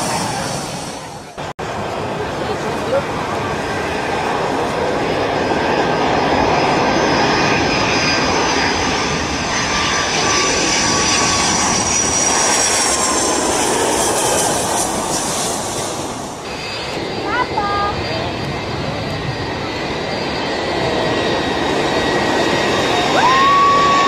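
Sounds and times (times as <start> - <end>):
jet engines roaring overhead: 0.0 - 24.0.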